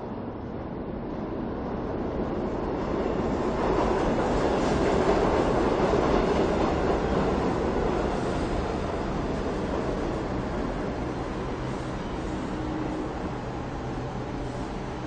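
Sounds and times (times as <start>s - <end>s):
subway train rumble: 0.0s - 15.0s.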